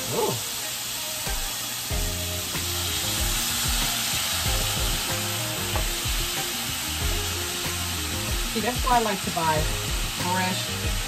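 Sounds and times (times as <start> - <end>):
green beans sizzling in a skillet: 0.0 - 11.0.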